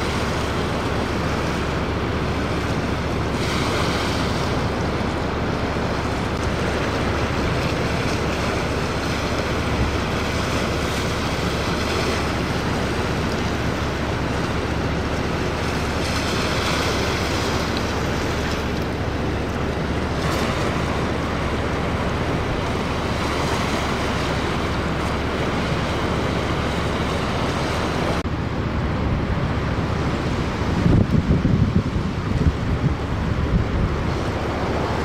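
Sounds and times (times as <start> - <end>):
rough waves breaking: 0.0 - 35.0
wind buffeting microphone: 0.0 - 35.0.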